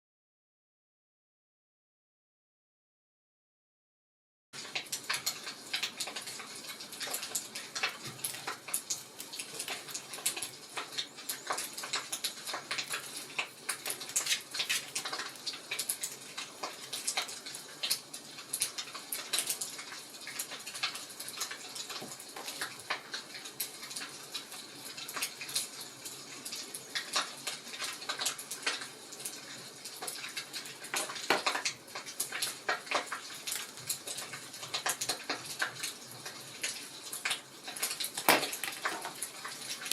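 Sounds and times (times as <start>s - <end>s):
fire crackling and popping: 4.6s - 39.9s.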